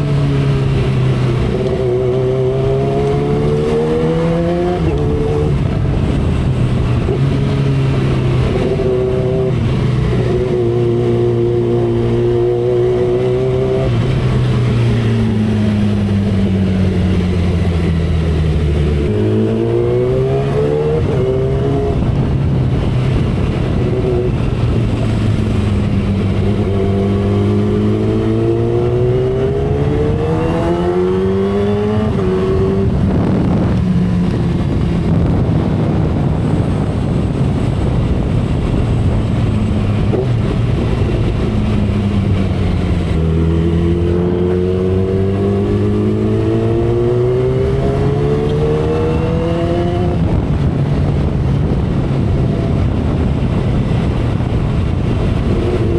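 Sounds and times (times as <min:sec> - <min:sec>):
motorcycle engine revving: 0:00.0 - 0:55.9
wind and road noise: 0:00.0 - 0:55.9.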